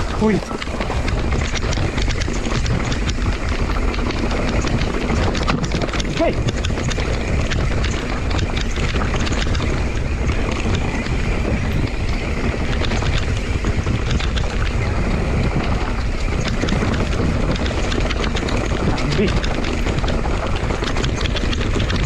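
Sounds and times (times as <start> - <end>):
bike rattling: 0.0 - 22.0
tyres over loose stones: 0.0 - 22.0
wind on microphone: 0.0 - 22.0.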